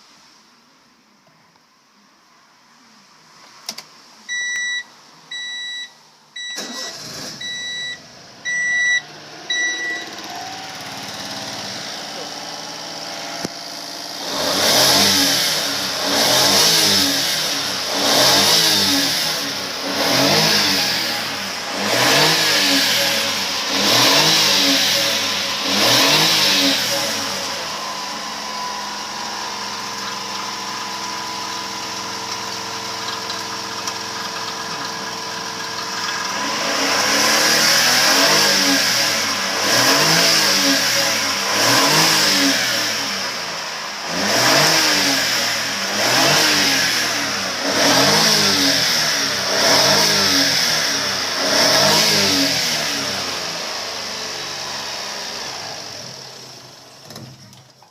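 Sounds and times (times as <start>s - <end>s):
small car engine revving: 6.6s - 57.2s.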